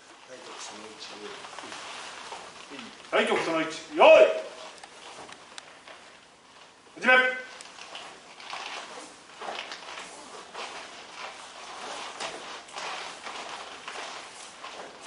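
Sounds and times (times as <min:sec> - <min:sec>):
fabric rustling: 0:00.0 - 0:06.8, 0:07.5 - 0:15.0
bare feet scuffing on floor: 0:00.3 - 0:06.7, 0:07.6 - 0:15.0.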